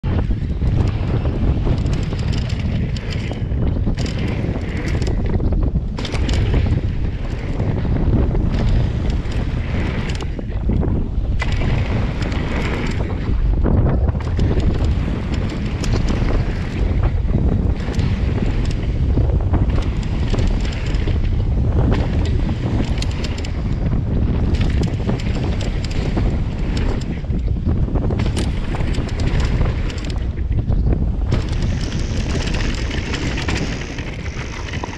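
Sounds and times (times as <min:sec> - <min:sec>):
wind rumbling on microphone: 0:00.0 - 0:34.9
bike clattering: 0:00.1 - 0:34.9
tyres clicking on loose gravel: 0:00.1 - 0:34.9.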